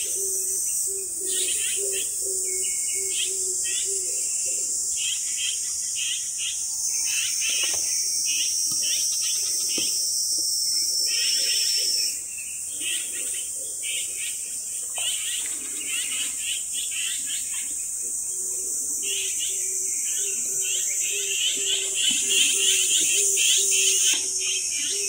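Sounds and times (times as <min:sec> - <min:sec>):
insect chirps: 0:00.0 - 0:25.0
insects droning: 0:00.0 - 0:25.0.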